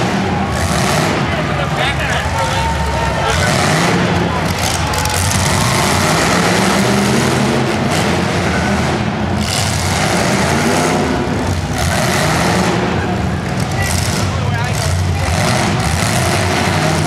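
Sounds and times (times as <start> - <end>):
unmuffled car engines revving: 0.0 - 17.0.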